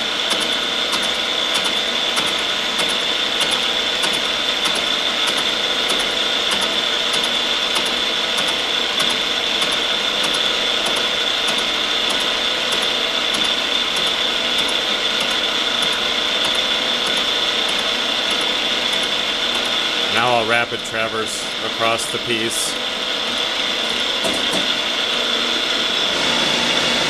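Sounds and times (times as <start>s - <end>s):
milling machine cutting with whine: 0.0s - 27.0s.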